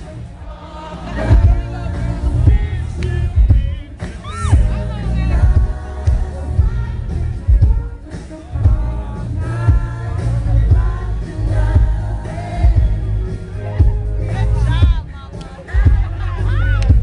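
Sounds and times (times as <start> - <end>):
pop song over sound system: 0.0 - 17.0.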